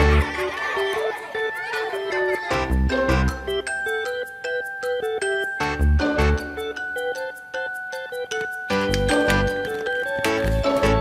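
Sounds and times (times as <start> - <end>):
light melodic background music: 0.0 - 11.0.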